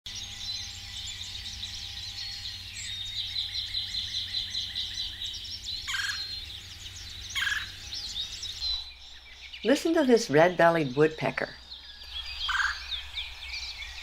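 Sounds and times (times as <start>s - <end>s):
birds chirping: 0.1s - 14.0s
woodpecker rolling churr call: 0.3s - 10.7s, 11.5s - 14.0s.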